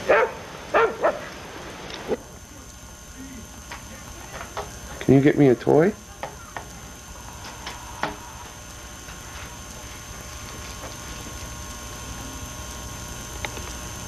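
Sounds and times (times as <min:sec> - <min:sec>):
tape hiss and hum: 0:00.0 - 0:14.0.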